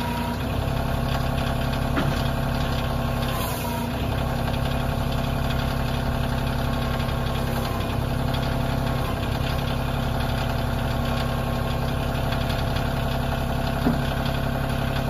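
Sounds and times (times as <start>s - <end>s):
diesel tractor engine idling: 0.0s - 15.0s.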